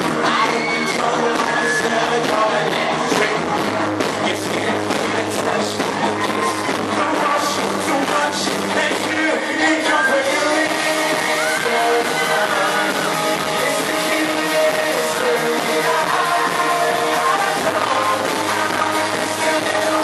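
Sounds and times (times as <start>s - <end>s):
guitar: 0.0s - 20.0s
live pop-rock band: 0.0s - 20.0s
person singing: 0.0s - 20.0s.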